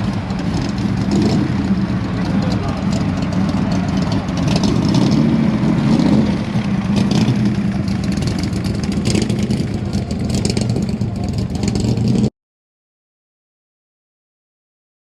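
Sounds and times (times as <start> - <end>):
car engine rumbling: 0.0 - 12.3.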